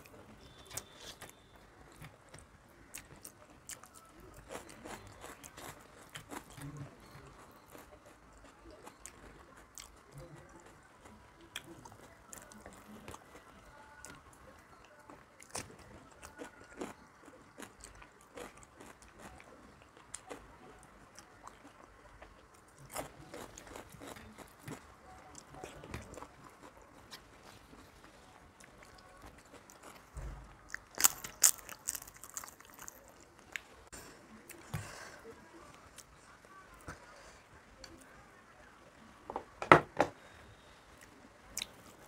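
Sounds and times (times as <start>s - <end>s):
chewing and crunching: 0.0s - 34.7s.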